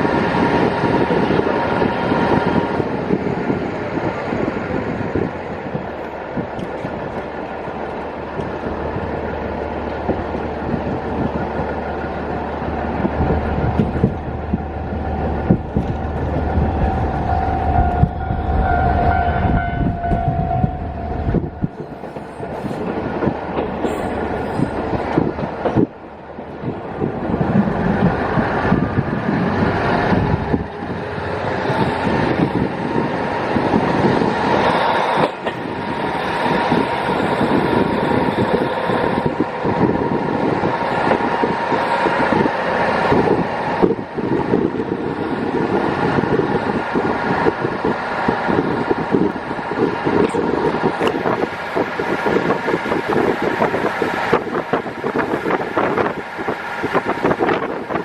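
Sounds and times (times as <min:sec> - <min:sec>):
diesel engine drone: 0:00.0 - 0:57.7
train wheel clatter: 0:00.0 - 0:58.0
wind rushing through window: 0:00.0 - 0:58.0.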